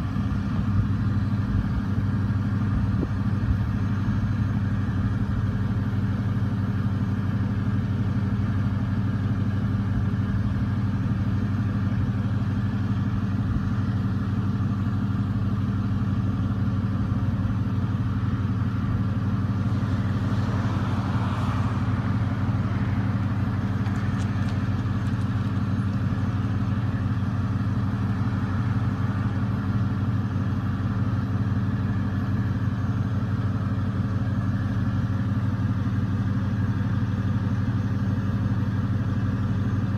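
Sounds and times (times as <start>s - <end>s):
pickup truck engine idling: 0.0s - 39.9s.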